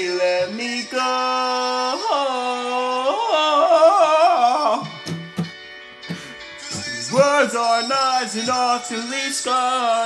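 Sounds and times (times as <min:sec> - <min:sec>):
young man singing: 0:00.0 - 0:05.1, 0:06.5 - 0:10.0.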